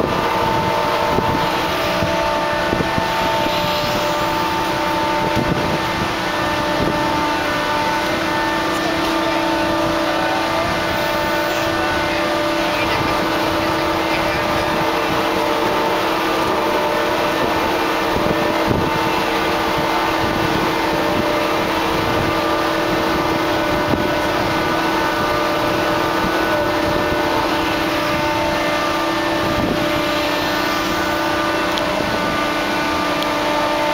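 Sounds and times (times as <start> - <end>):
machinery drone: 0.0 - 33.9.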